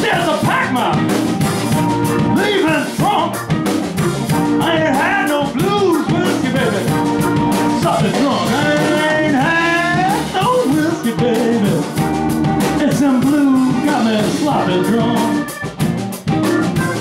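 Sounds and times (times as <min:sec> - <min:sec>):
blues band playing live: 0:00.0 - 0:17.0.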